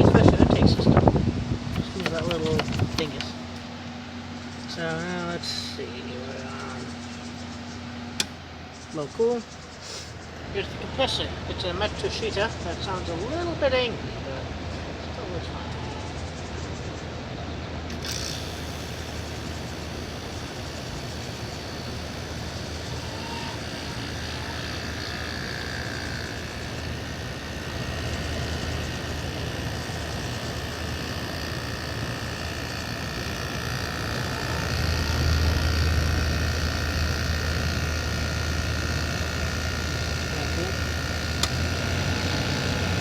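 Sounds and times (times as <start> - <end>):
air conditioner compressor hum: 0.0 - 43.0
air conditioner fan rushing: 0.0 - 43.0.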